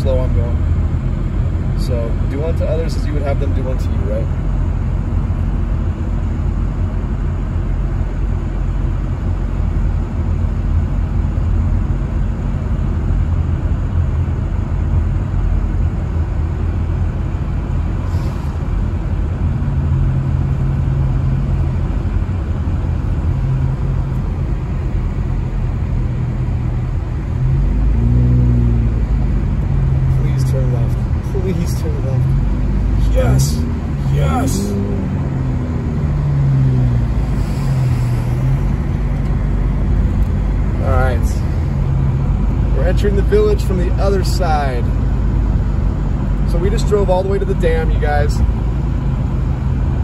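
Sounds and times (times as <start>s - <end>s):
car engine hum: 0.0s - 50.0s.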